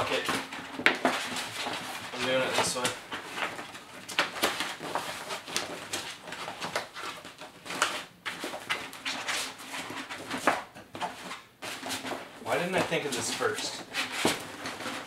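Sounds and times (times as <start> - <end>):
stiff backdrop rustling and crinkling: 0.0 - 15.0.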